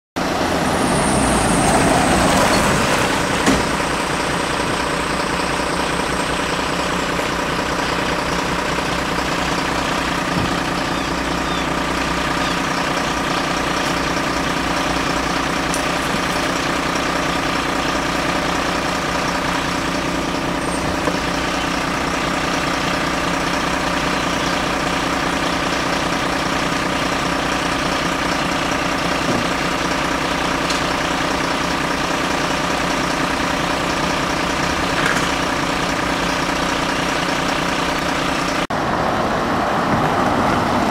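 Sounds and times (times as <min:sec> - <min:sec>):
diesel engine idling: 0:00.2 - 0:40.9
pickup truck driving up: 0:00.2 - 0:40.9.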